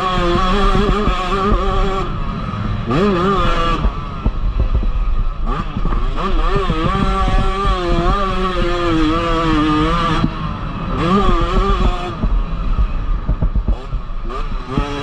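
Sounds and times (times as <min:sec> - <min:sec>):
engine knocks and rattles: 0:00.0 - 0:15.0
motocross engine revving: 0:00.0 - 0:15.0.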